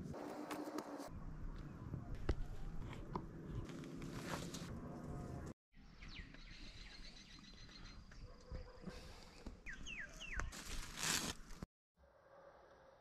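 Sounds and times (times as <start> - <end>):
faint outdoor ambience: 0.0 - 10.7.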